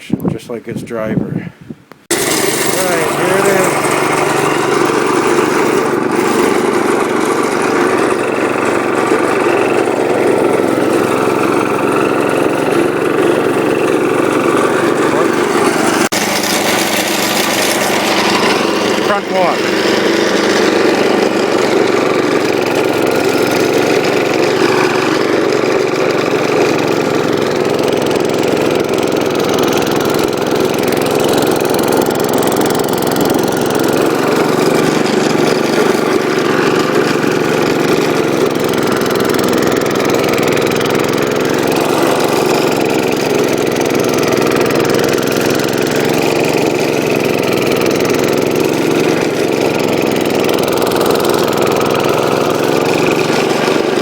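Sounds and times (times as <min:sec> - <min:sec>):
single-cylinder engine running: 0:02.1 - 0:54.0.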